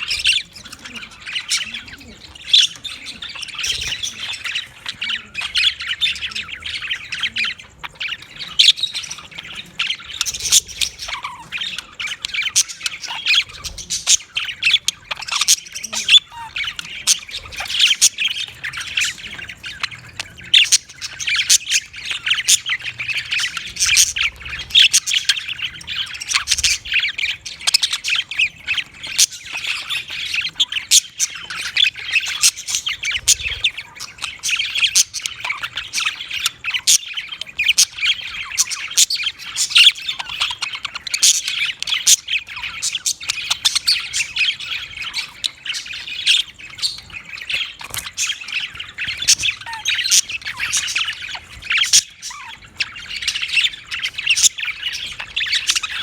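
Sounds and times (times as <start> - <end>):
budgerigars chattering and squawking: 0.0 - 56.0.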